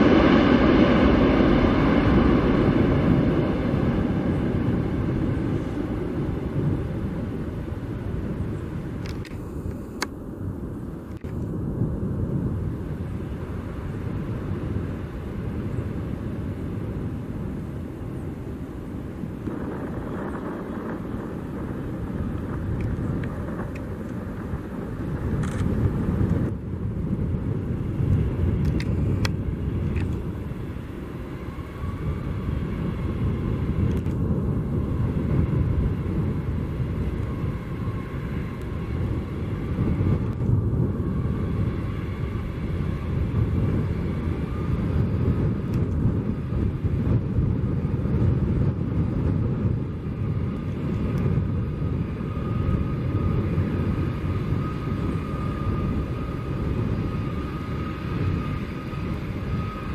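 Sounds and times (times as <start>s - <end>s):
jet engines rumbling: 0.0s - 59.9s
thin engine whine: 0.0s - 59.9s.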